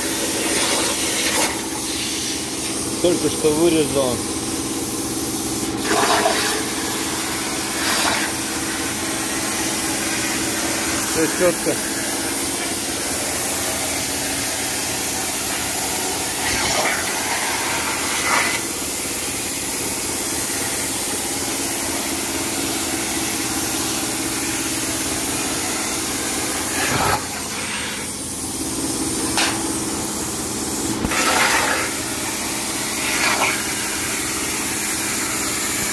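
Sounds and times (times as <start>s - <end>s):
plasma arc hissing: 0.0s - 35.9s.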